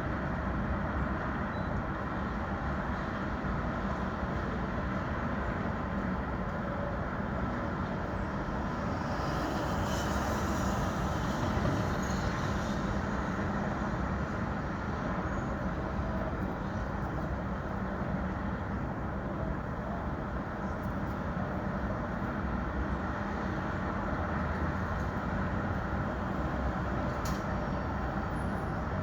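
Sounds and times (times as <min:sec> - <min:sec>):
rumble of passing vehicles: 0:00.0 - 0:29.0.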